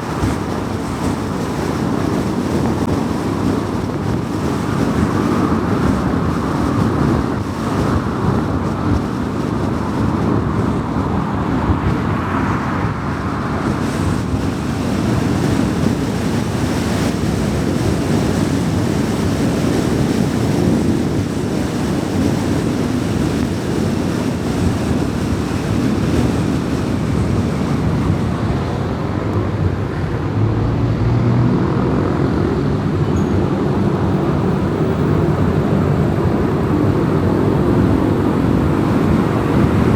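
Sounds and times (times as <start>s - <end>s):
tyre and wind noise: 0.0s - 39.9s.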